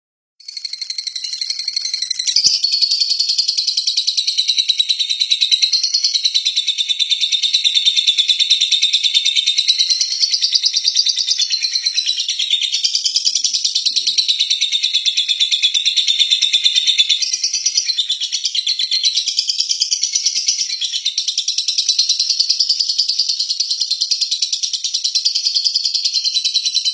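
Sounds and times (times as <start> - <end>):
bird chattering high chirps: 0.4 - 26.9.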